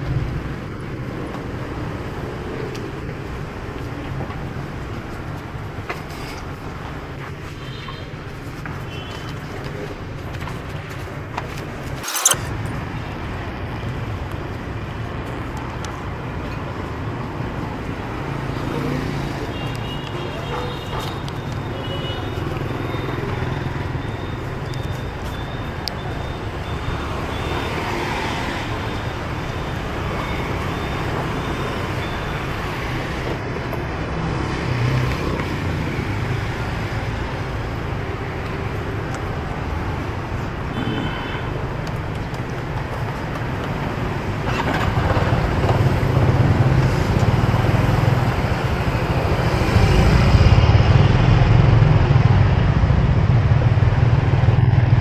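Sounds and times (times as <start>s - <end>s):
motorbikes and cars passing: 0.0s - 55.0s.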